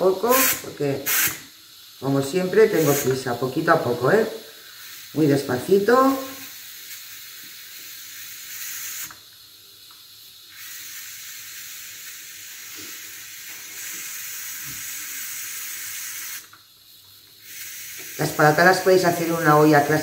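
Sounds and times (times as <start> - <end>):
steam hissing from valve: 0.0 - 20.0.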